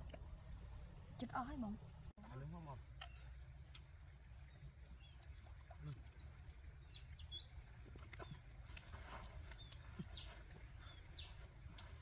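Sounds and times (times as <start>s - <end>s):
low steady rumble: 0.0s - 12.0s
faint birds chirping: 2.3s - 12.0s.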